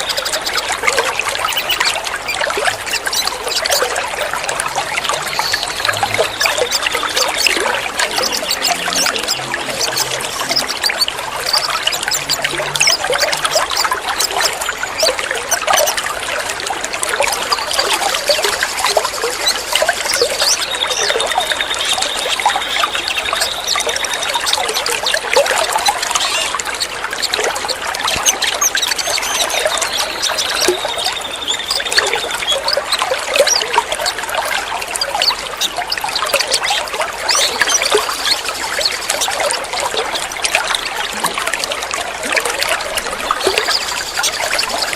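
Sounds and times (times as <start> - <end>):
water trickling: 0.0 - 44.9.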